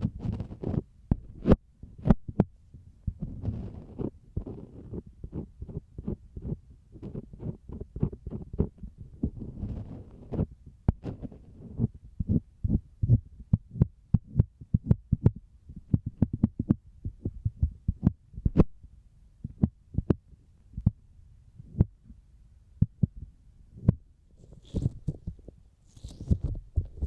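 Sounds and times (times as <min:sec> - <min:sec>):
fingertips tapping on microphone: 0:00.0 - 0:18.8, 0:19.4 - 0:21.0, 0:22.8 - 0:27.0.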